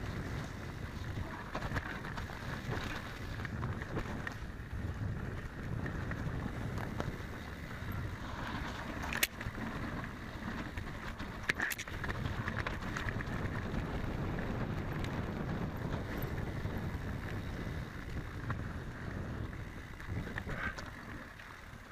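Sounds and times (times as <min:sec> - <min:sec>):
bike tyres rumbling and rattling: 0:00.0 - 0:21.9
wind rush on microphone: 0:00.0 - 0:21.9.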